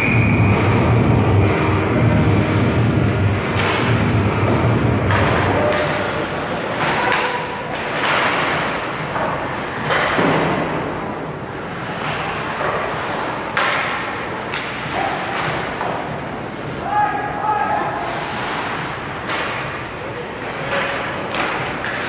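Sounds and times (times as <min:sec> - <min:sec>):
skates on ice: 0:02.1 - 0:17.1, 0:17.9 - 0:22.0
pucks and sticks hitting boards: 0:03.4 - 0:17.1, 0:18.0 - 0:22.0.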